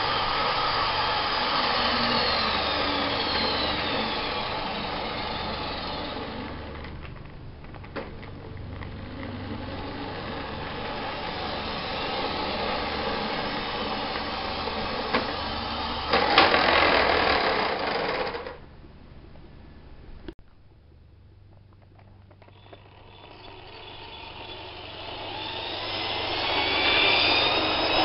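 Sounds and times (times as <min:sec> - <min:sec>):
model train motors whirring: 0:00.0 - 0:18.6, 0:22.4 - 0:28.0.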